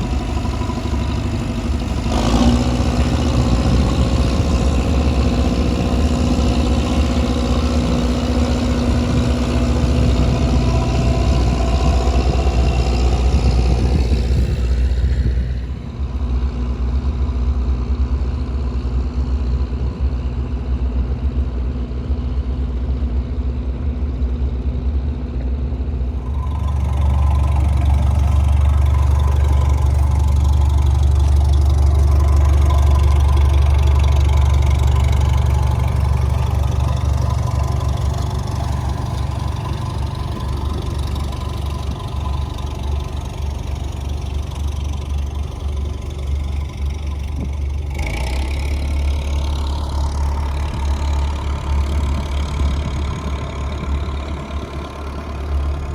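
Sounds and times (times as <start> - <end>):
boat diesel engine drone: 0.0 - 55.9.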